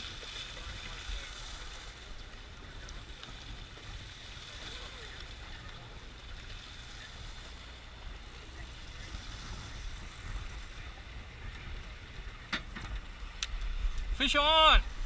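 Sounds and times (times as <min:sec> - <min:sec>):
boat engine rumble and hiss: 0:00.0 - 0:15.0.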